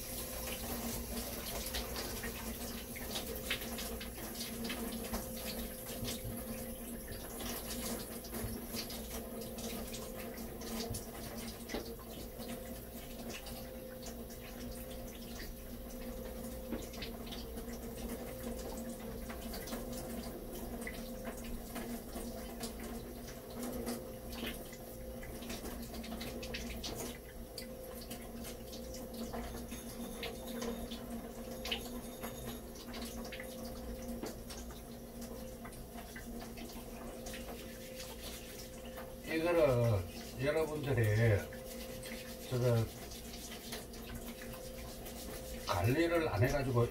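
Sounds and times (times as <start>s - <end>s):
tap water running into sink: 0.0s - 46.9s.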